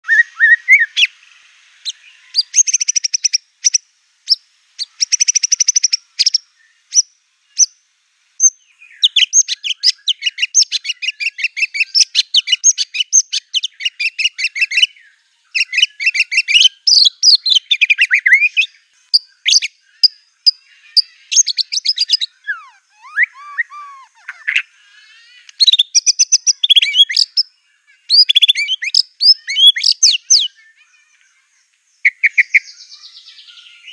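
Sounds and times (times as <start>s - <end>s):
bird singing trills and chatters: 0.0s - 7.8s, 8.4s - 33.9s.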